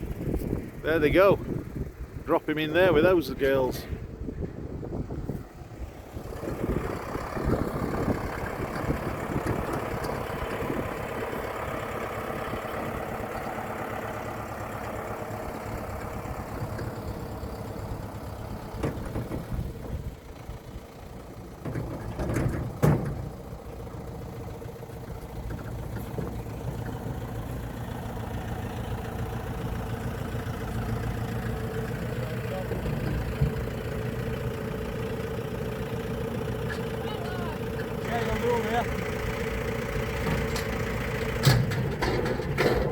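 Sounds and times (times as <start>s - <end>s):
tractor engine running at low revs: 0.0s - 42.9s.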